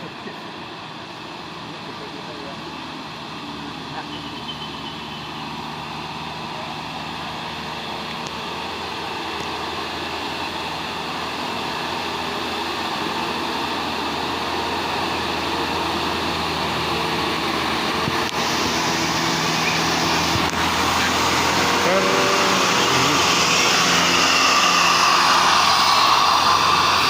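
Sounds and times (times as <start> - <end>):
bus diesel engine climbing: 0.0 - 27.0.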